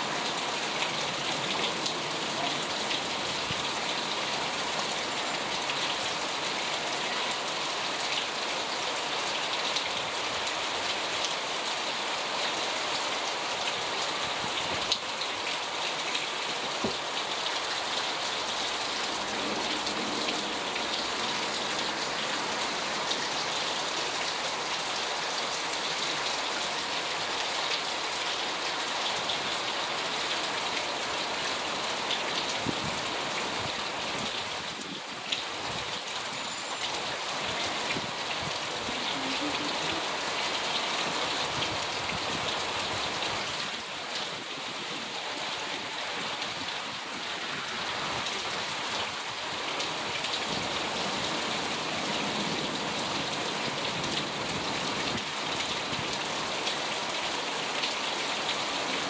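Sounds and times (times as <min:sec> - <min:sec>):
heavy rain on cars and ground: 0:00.0 - 0:59.0.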